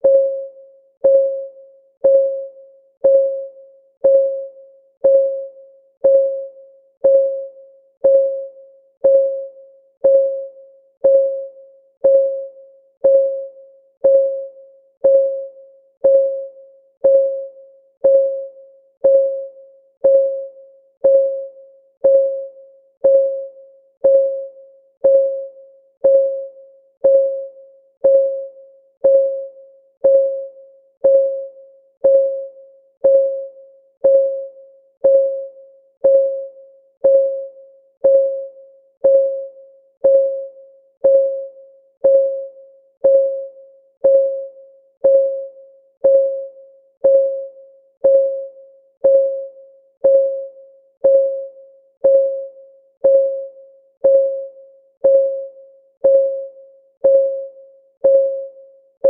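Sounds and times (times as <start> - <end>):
electronic timer ticking: 0.0 - 59.0.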